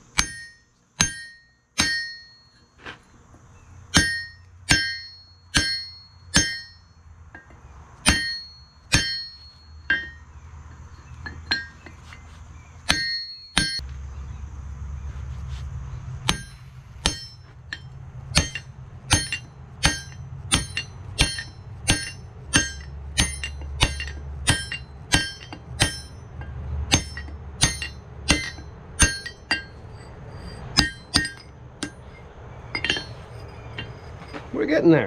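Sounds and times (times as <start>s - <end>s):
steady low hum: 0.0s - 35.0s
hammer clanging on anvil: 0.2s - 2.6s, 3.9s - 10.3s, 11.2s - 12.0s, 12.9s - 13.8s, 16.3s - 34.9s.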